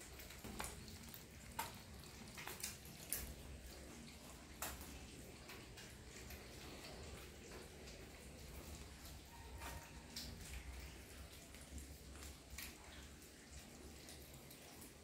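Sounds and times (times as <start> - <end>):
kittens lapping milk: 0.0 - 15.0.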